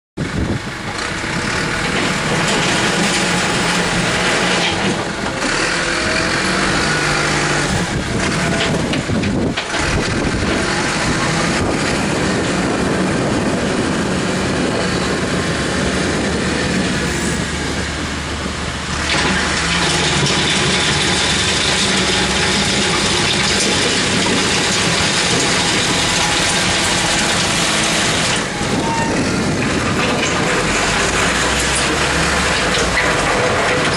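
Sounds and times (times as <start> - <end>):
diesel engine under load: 0.2 - 33.9.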